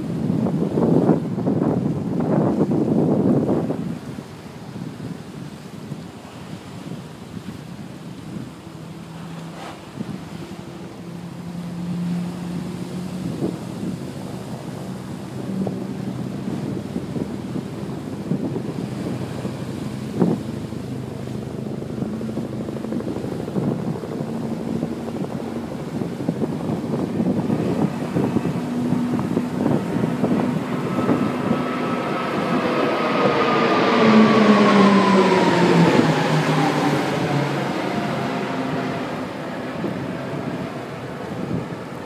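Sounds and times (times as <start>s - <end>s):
aircraft engines droning overhead: 0.0s - 42.0s
sea surf: 0.0s - 42.0s
wind on microphone: 0.0s - 42.0s.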